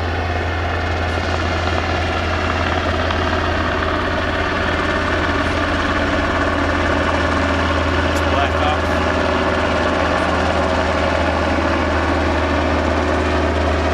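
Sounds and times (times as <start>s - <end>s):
helicopter running close by: 0.0s - 13.9s.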